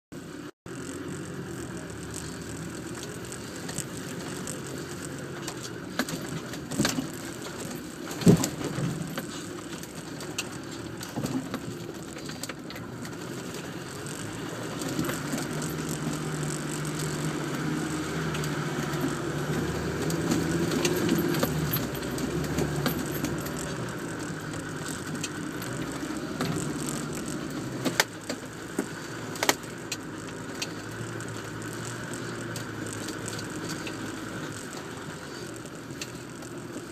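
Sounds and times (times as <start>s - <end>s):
car engine running: 0.2s - 36.9s.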